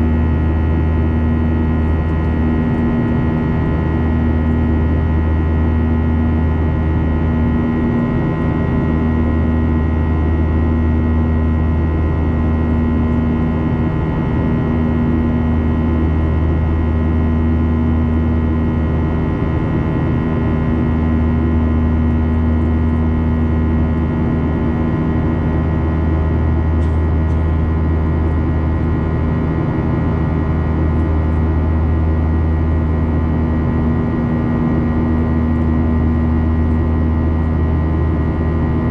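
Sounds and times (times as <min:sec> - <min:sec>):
jet engine drone: 0:00.0 - 0:38.9.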